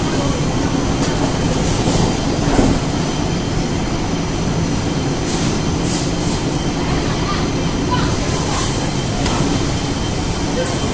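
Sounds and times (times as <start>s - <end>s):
laundry machine rumble and hum: 0.0s - 10.9s.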